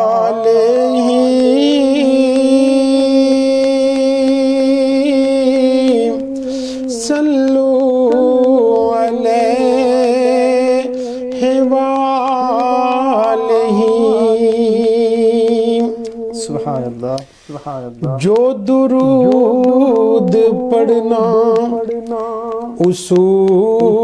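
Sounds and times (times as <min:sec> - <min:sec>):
man singing unaccompanied: 0:00.0 - 0:24.0.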